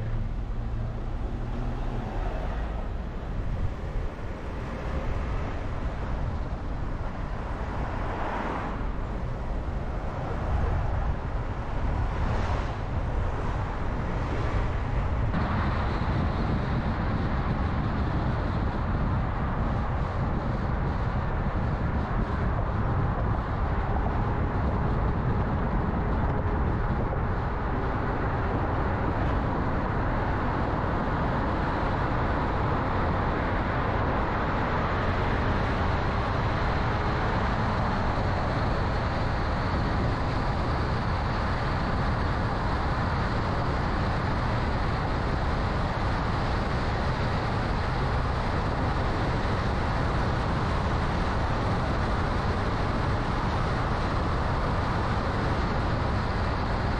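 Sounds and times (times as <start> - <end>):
car engine hum: 0.0 - 56.9
tyre and road noise: 0.0 - 56.9.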